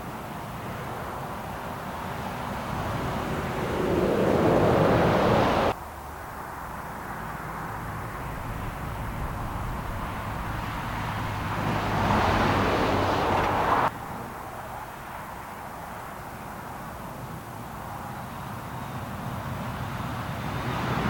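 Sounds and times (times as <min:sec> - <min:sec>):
lorries passing on a motorway: 0:00.0 - 0:21.0
steady traffic noise: 0:00.0 - 0:21.0.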